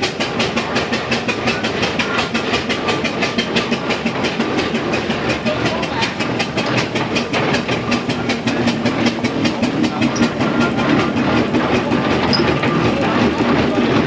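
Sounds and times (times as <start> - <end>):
steam engine beating rhythmically: 0.0 - 14.0.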